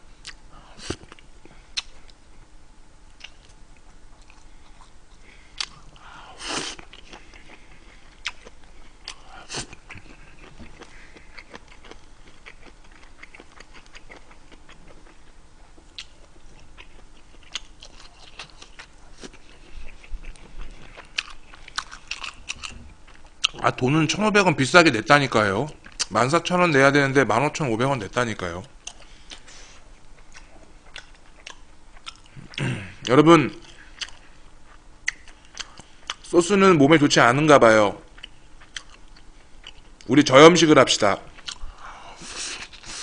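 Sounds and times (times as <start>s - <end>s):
man chewing food: 0.2s - 2.5s, 3.1s - 23.7s, 25.7s - 26.1s, 28.7s - 36.3s, 38.1s - 40.1s, 41.3s - 43.0s.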